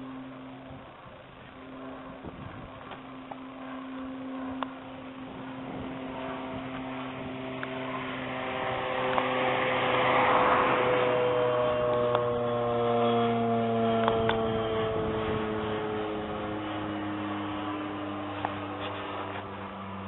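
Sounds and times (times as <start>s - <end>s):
airplane engine noise: 0.0s - 20.0s
steady low hum: 0.0s - 20.0s.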